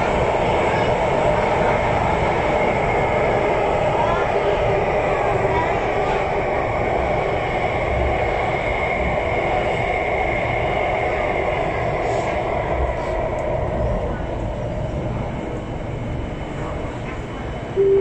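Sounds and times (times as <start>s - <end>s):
train wheels on rail: 0.0s - 17.8s.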